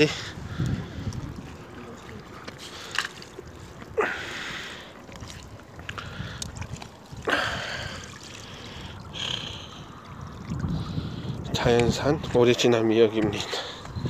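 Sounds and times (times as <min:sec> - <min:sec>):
seawater sloshing among rocks: 0:00.0 - 0:14.0
water splashes: 0:00.0 - 0:14.0.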